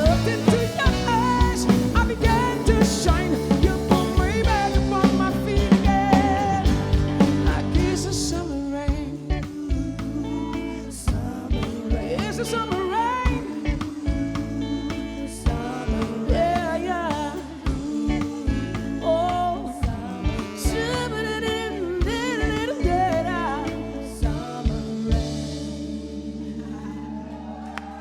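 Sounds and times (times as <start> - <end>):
live rock band playing: 0.0 - 28.0
singer's vocal runs: 0.0 - 28.0.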